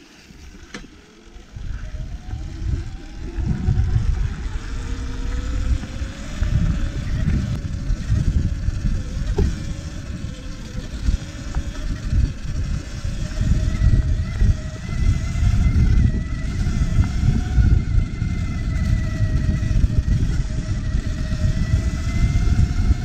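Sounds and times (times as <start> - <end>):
electric motor whine: 0.0 - 23.0
gusty wind rumble: 1.3 - 23.0.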